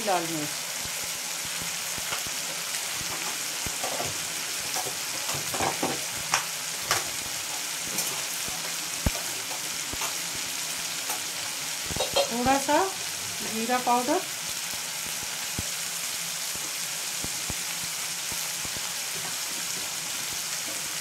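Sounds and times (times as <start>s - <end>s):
oil sizzling and bubbling: 0.0s - 21.0s.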